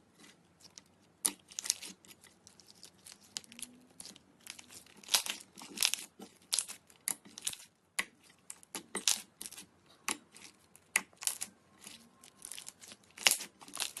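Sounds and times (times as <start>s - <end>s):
slime squishing and crackling: 0.2s - 14.0s.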